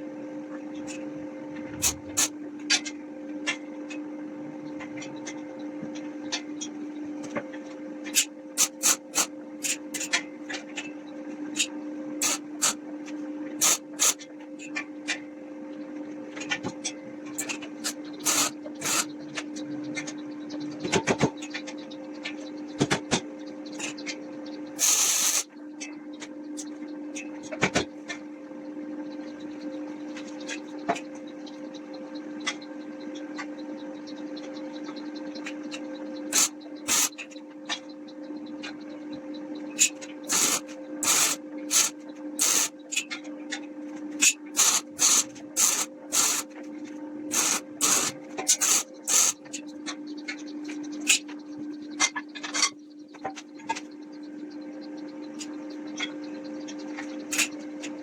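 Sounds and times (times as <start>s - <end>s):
steady low hum: 0.0s - 10.1s, 11.0s - 52.0s.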